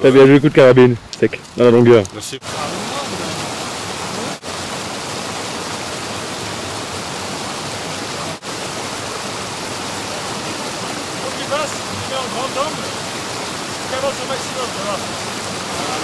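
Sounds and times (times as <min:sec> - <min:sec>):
steady rushing hiss: 0:00.5 - 0:16.0.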